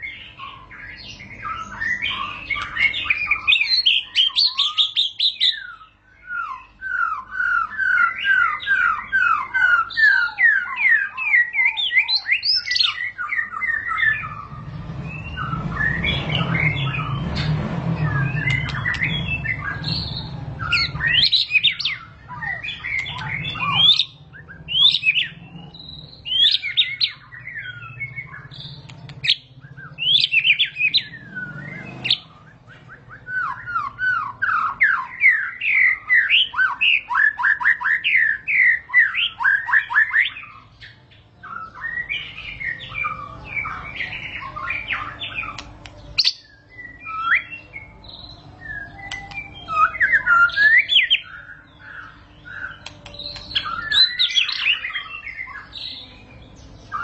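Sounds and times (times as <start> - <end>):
songbird whistling song: 0.0 - 57.0.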